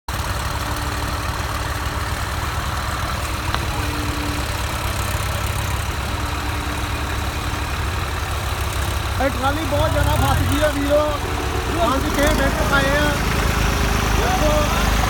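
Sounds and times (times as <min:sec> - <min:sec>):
tractor diesel engine chugging: 0:00.1 - 0:15.0.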